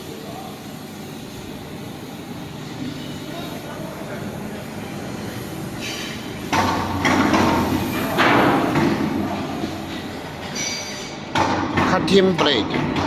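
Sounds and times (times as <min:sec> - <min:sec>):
machinery humming: 0:00.0 - 0:13.0
hissing grating bursts: 0:00.6 - 0:11.2.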